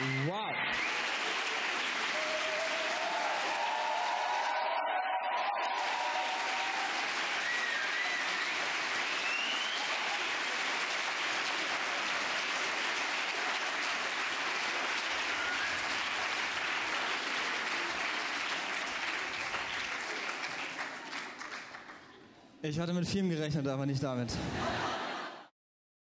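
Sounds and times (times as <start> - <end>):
audience applause: 0.0 - 22.2.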